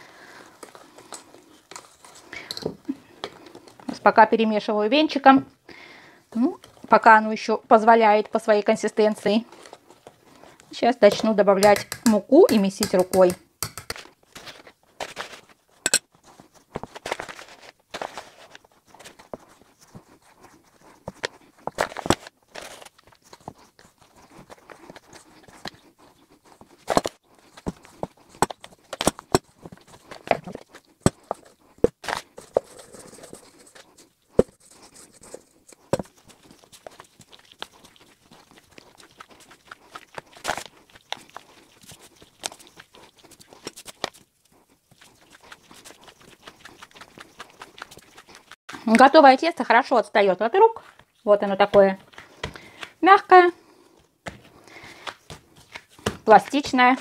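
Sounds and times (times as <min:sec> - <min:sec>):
hands kneading dough: 0:06.4 - 0:57.0.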